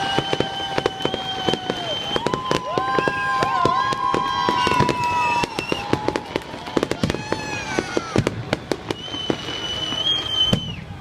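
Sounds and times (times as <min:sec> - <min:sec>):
fireworks bangs and crackles: 0:00.0 - 0:11.0
high whistling fireworks: 0:00.0 - 0:11.0.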